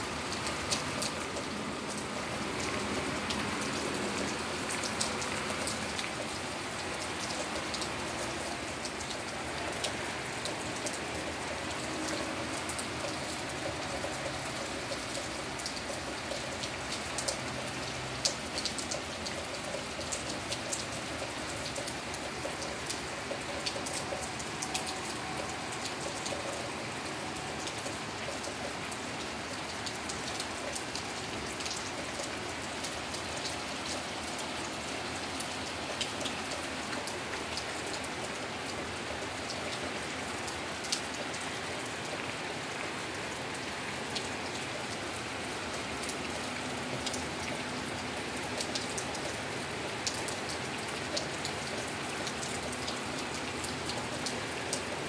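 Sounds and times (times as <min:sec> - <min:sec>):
steady rain with drop ticks: 0:00.0 - 0:55.0.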